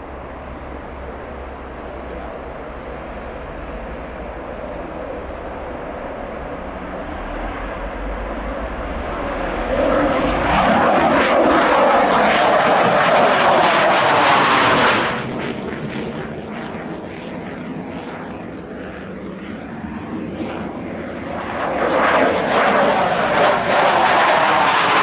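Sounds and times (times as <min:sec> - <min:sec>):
loud jet engine: 0:00.0 - 0:25.0.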